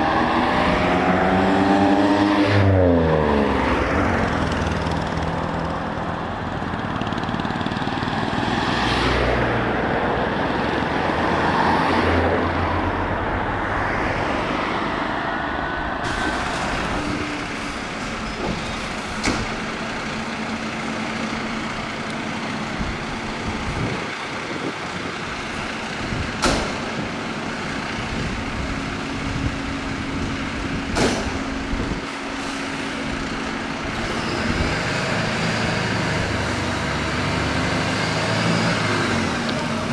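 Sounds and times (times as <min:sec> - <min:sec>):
traffic and road noise: 0:00.0 - 0:39.9
heavy truck engine running: 0:02.8 - 0:11.6, 0:14.2 - 0:39.9.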